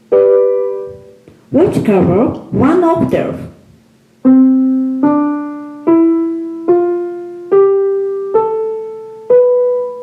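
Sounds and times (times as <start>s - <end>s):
piano notes up a scale: 0.0s - 3.5s, 4.2s - 10.0s.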